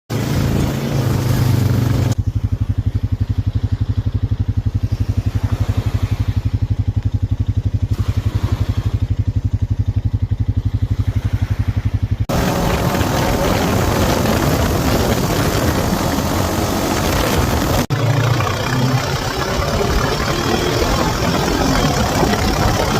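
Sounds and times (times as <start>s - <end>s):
atv engine revving and idling: 0.1s - 22.9s.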